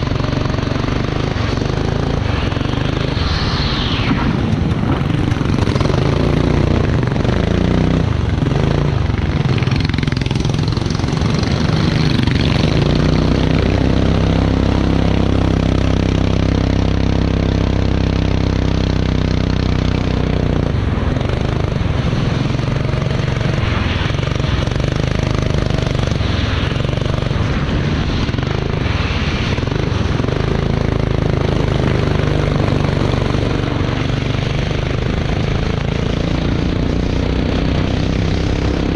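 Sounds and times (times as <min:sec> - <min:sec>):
racing kart engine running: 0:00.0 - 0:03.3, 0:04.5 - 0:38.9.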